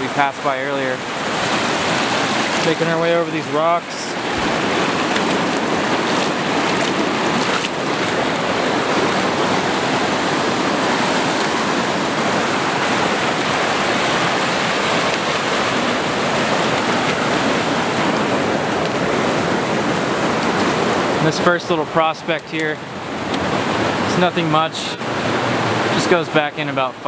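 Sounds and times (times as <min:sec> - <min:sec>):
creek rushing over rocks: 0:00.0 - 0:27.0.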